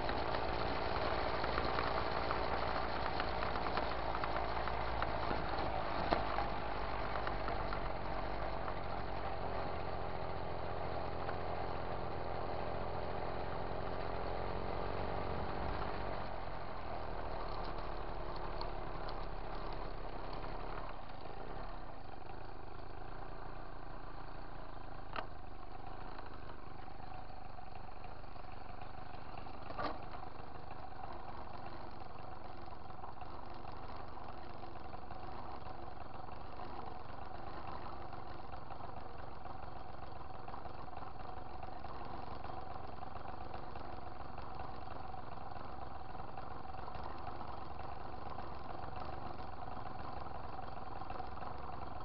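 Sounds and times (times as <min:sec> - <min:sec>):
moped engine idling: 0:00.0 - 0:14.2, 0:15.3 - 0:52.0.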